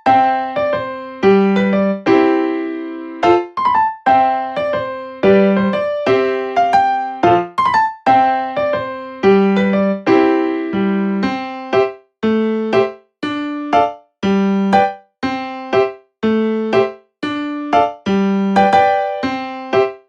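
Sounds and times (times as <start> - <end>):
bouncy electric piano tune: 0.0 - 20.0.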